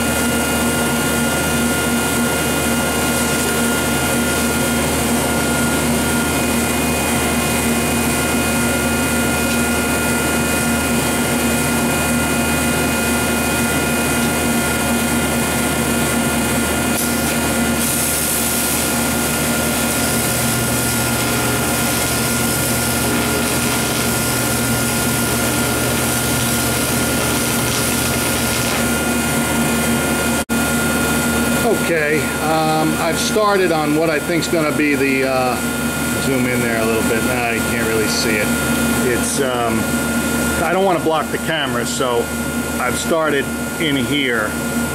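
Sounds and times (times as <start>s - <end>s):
welding arc hiss and buzz: 0.0s - 44.8s
mechanical hum: 0.0s - 44.9s.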